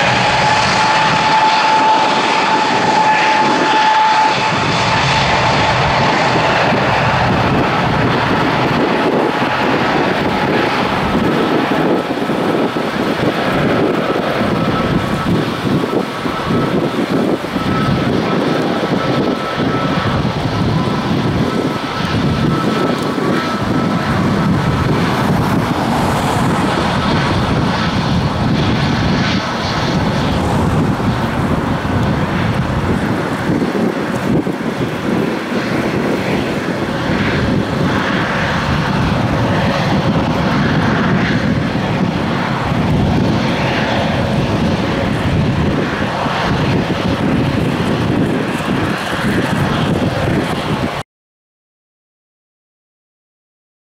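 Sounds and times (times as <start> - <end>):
thin engine whine: 0.0 - 50.9
jet engines at takeoff: 0.0 - 51.0.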